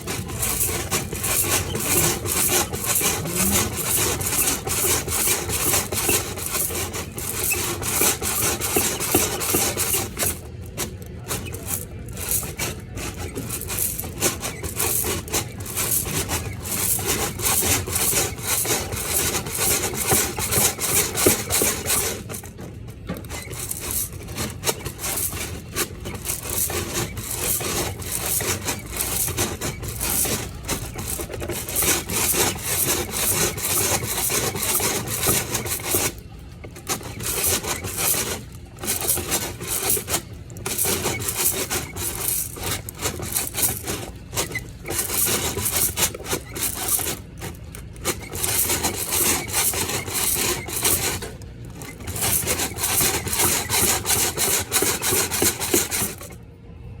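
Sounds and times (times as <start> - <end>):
rasping rubbing and scraping: 0.0 - 56.4.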